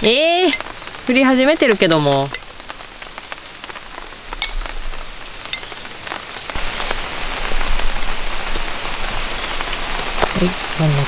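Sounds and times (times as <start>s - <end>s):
light rain falling: 0.0s - 11.0s
raindrops ticking: 0.0s - 11.0s.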